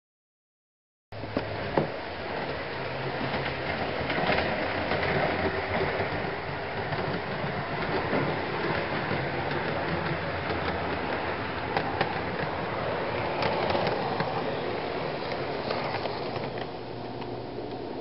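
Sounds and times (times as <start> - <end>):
model train motor hum and rolling: 1.2 - 18.0.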